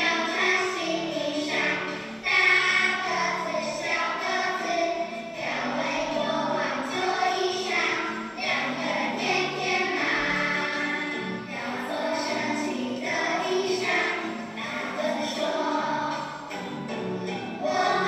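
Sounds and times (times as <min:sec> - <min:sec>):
young children singing: 0:00.0 - 0:18.0.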